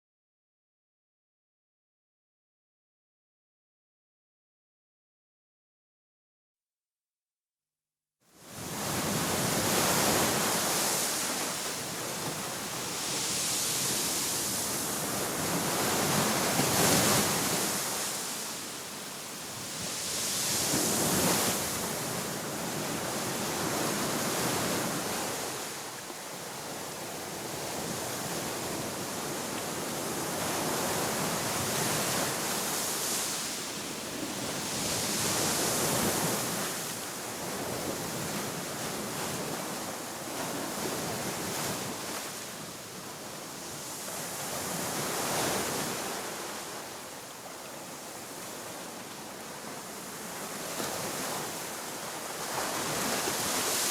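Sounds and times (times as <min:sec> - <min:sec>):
sea waves breaking on shore: 0:08.4 - 0:53.9.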